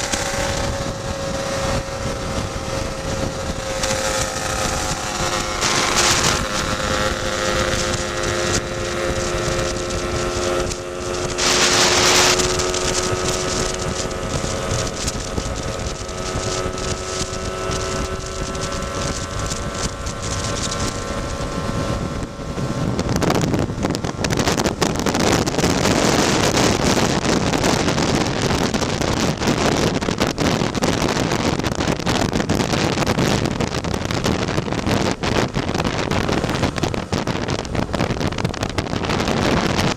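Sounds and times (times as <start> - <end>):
scooter engine cruising: 0.0 - 39.9
wind buffeting microphone: 0.0 - 39.9.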